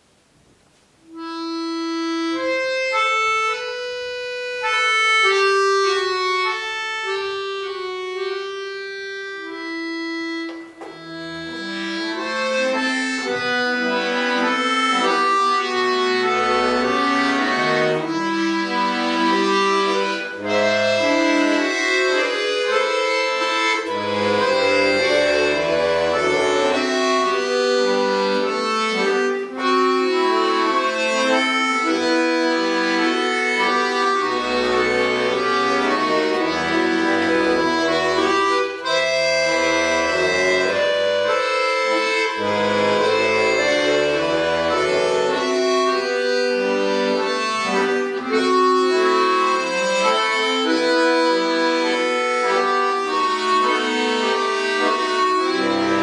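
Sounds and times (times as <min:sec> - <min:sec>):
accordion duet: 0:00.0 - 0:56.0.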